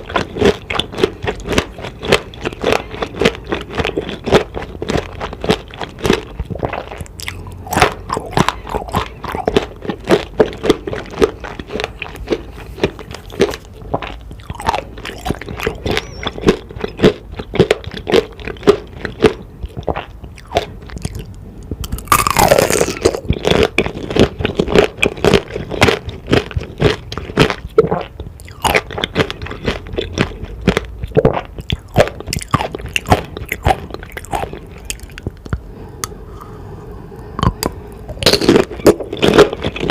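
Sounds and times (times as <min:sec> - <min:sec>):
crunching and chewing candy: 0:00.0 - 0:39.9.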